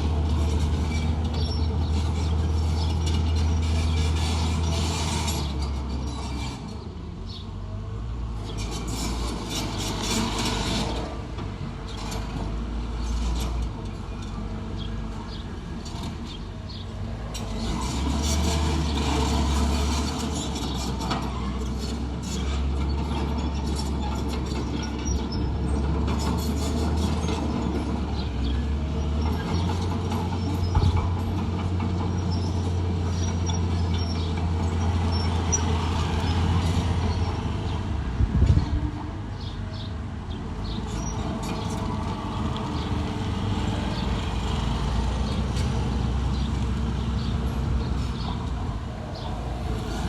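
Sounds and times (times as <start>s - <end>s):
bulldozer diesel engine droning: 0.0s - 50.0s.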